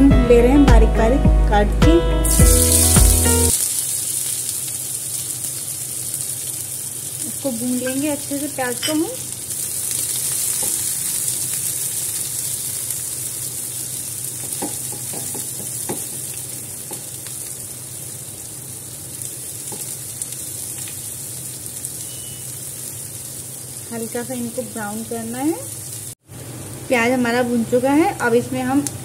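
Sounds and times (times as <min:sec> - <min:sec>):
onions sizzling in hot oil: 0:02.2 - 0:29.0.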